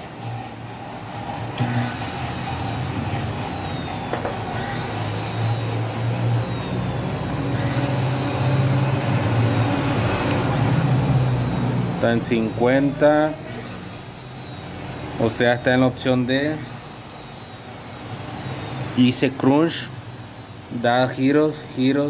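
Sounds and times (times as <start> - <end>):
blender motor humming: 0.0 - 22.0.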